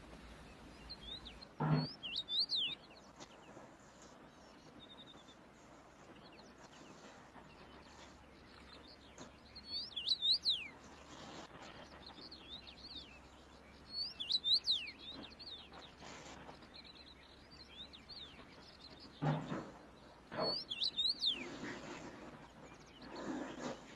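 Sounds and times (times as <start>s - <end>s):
faint outdoor background: 0.0s - 23.9s
songbird singing: 0.0s - 23.9s.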